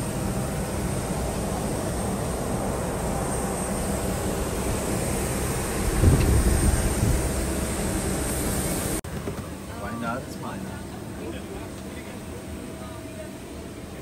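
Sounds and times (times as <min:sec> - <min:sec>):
aircraft engine rumble and whine: 0:00.0 - 0:14.0.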